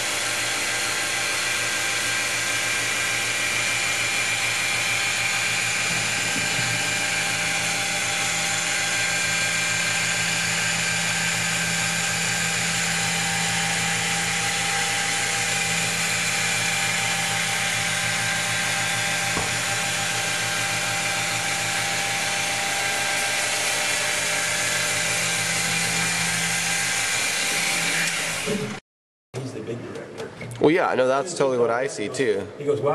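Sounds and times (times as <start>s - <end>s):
electric stone polisher motor whine: 0.0s - 28.8s
polishing pad rushing on stone: 0.0s - 28.8s.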